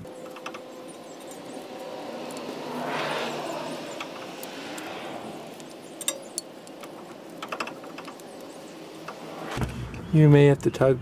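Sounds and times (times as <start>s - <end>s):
passing vehicle rushing: 0.1s - 10.2s.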